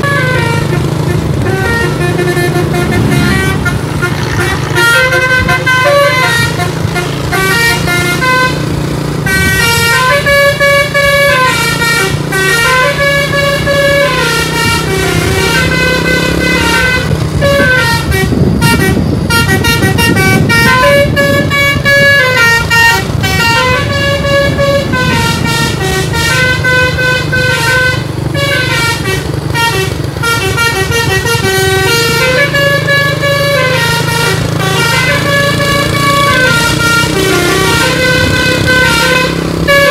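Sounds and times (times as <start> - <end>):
bus engine running: 0.0 - 39.9
multi-tone bus horn tune: 0.0 - 39.9.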